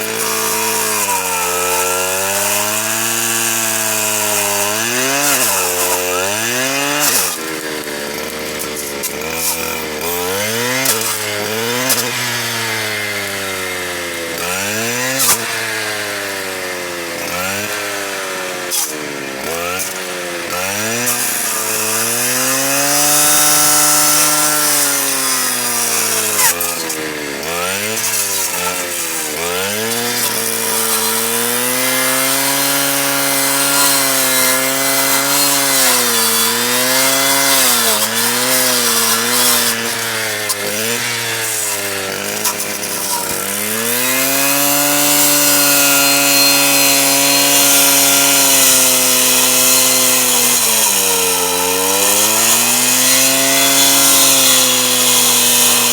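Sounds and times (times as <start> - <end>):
cut-off saw cutting: 0.0 - 55.9.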